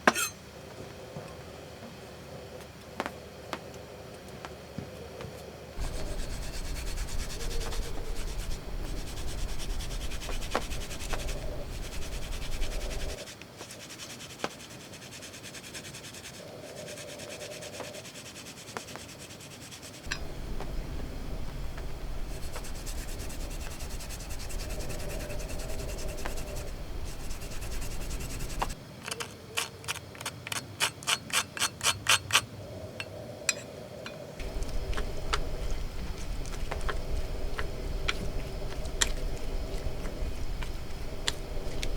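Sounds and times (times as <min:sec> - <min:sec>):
rubbing and scraping: 0:05.8 - 0:32.4, 0:34.4 - 0:41.9.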